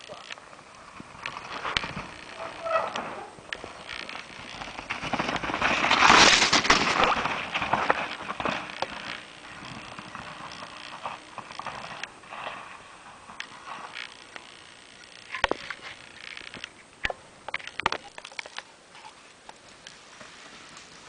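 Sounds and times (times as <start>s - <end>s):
bike tyres crunching and rattling: 0.0s - 21.0s.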